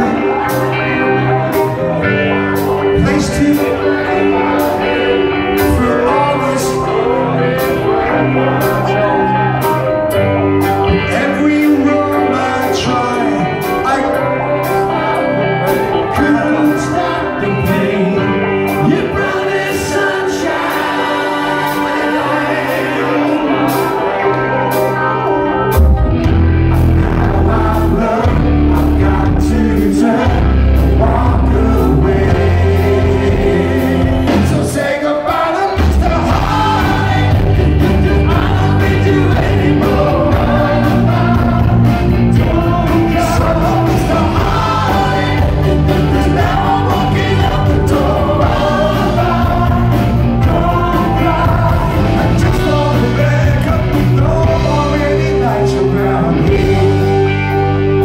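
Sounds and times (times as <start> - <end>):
voices singing together: 0.0 - 10.1, 10.8 - 25.1, 26.8 - 58.0
bass guitar: 0.0 - 58.0
drums: 0.0 - 58.0
electric guitar: 0.0 - 58.0
male lead vocals: 0.0 - 58.0.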